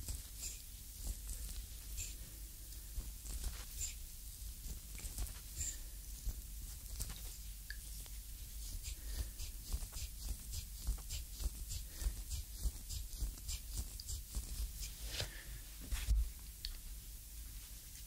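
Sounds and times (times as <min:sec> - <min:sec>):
wooden stick scraping skin: 0:00.0 - 0:02.2, 0:02.8 - 0:16.2.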